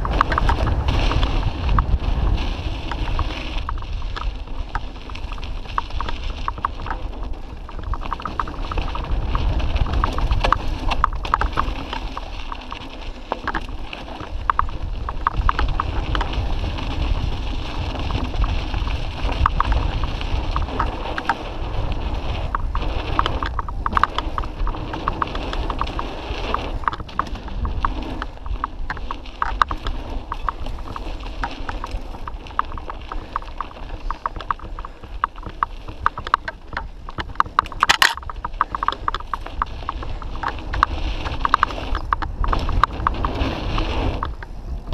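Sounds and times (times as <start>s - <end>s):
bike rattling and clicking: 0.0s - 44.9s
wind and tyres on trail: 0.0s - 44.9s.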